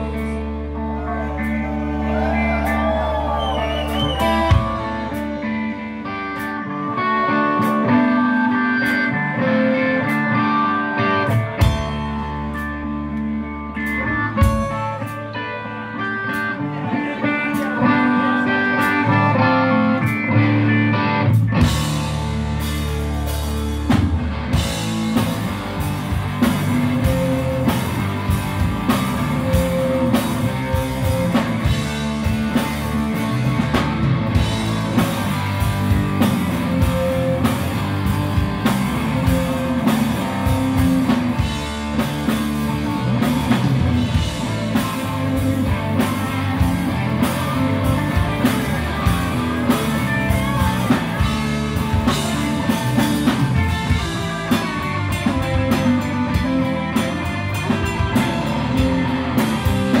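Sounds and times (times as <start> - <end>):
electric guitar riff: 0.0 - 60.0
rock band playing: 0.0 - 60.0.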